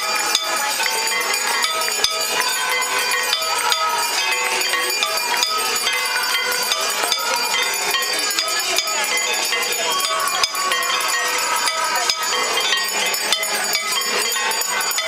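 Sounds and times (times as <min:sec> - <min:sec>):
hand bells ringing: 0:00.0 - 0:15.0.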